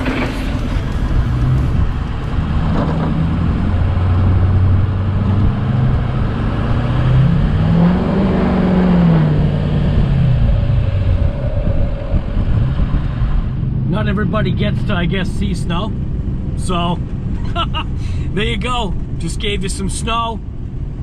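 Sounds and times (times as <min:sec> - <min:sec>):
vehicle engine revving: 0:00.0 - 0:19.2.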